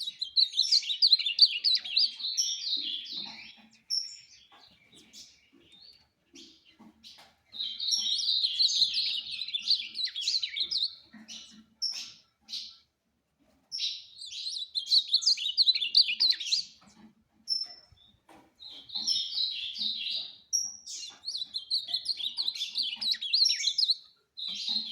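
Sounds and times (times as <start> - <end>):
bird singing warbled phrases: 0.0 - 12.9, 13.7 - 24.9.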